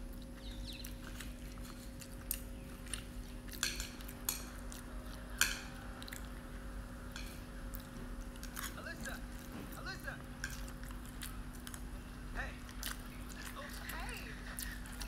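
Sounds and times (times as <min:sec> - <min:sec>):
chewing: 0:00.0 - 0:15.0.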